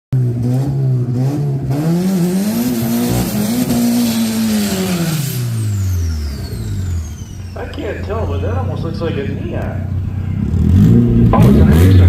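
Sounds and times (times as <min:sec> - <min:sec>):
car engine accelerating hard: 0:00.2 - 0:12.0.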